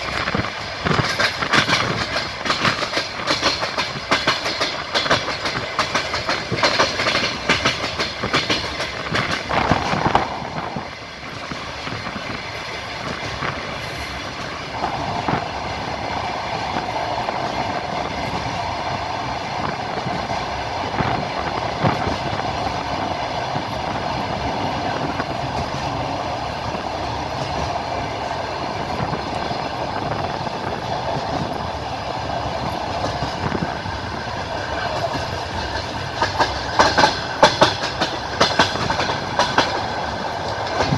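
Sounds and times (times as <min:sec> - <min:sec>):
train rolling rumble: 0:00.0 - 0:40.9
train wheels clacking on rails: 0:00.0 - 0:40.9.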